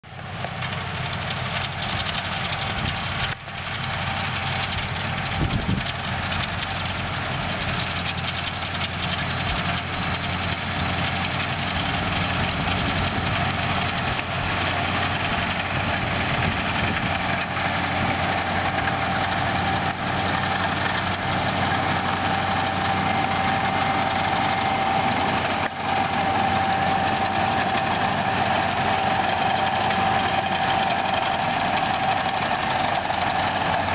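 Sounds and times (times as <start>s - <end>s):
steady whine: 0.0s - 33.9s
tractor diesel engine running: 0.0s - 33.9s.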